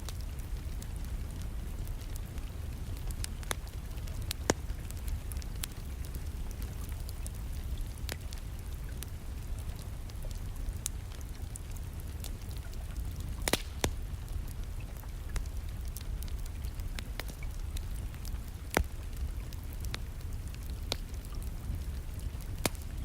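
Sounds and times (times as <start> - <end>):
rain: 0.0 - 23.0
wood fire crackling and popping: 0.0 - 23.0.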